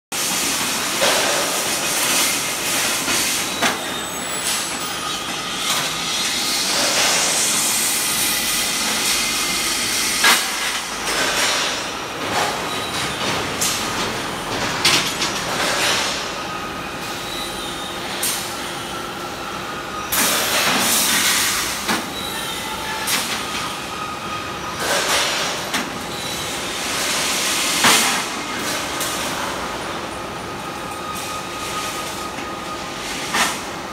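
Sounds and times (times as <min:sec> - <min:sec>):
steady machinery noise: 0:00.2 - 0:33.9.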